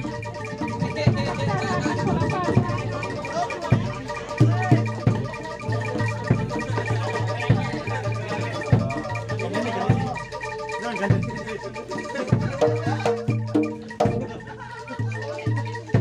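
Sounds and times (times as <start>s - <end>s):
ringing metallophone notes: 0.0s - 16.0s.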